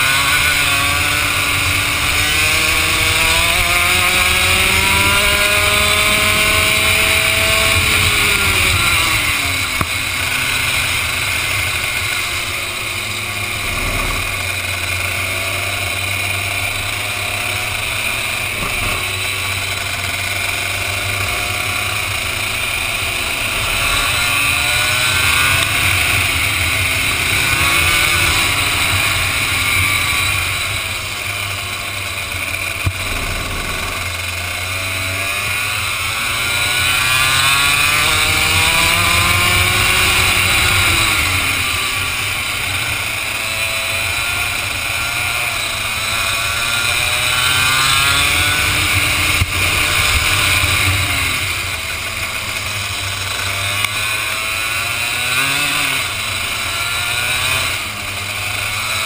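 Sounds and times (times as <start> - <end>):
kart two-stroke engine: 0.0 - 59.0.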